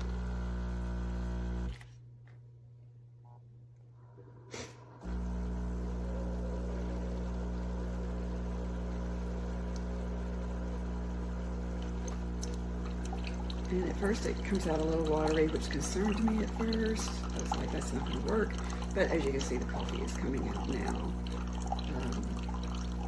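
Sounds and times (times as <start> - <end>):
coffee maker pump humming: 0.0 - 1.8, 5.0 - 23.0.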